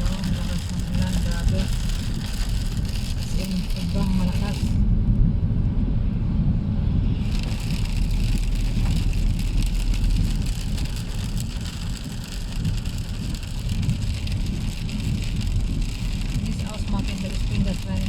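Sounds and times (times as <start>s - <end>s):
heavy rain pelting a car: 0.0s - 4.9s, 7.1s - 18.0s
car driving rumble: 0.0s - 18.0s.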